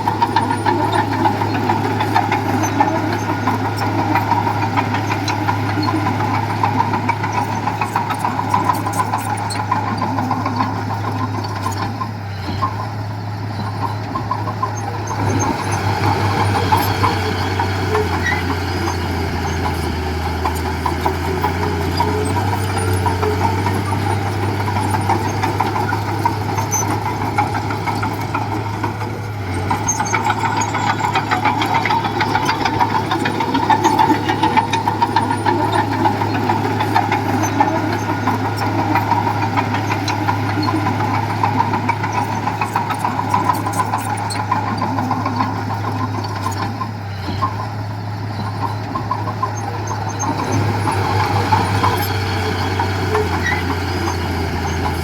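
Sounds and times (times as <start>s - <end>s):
diesel engine clattering: 0.0s - 55.0s.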